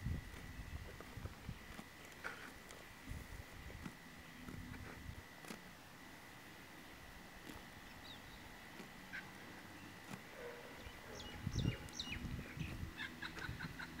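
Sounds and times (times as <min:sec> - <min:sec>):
birds chirping: 0:00.4 - 0:04.8, 0:05.7 - 0:14.0.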